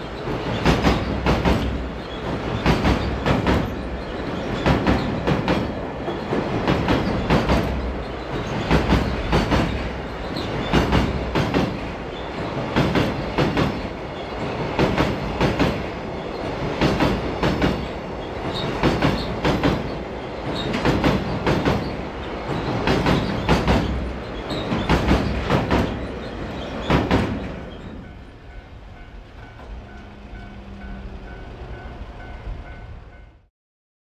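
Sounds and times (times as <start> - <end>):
train wheels clacking over rail joints: 0.1 - 28.6.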